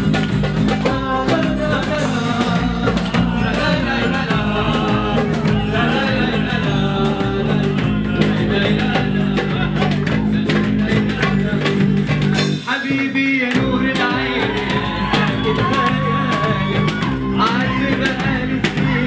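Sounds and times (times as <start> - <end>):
acoustic guitar: 0.0 - 19.0
drum steady beat: 0.0 - 19.0
man singing into microphone: 0.7 - 19.0.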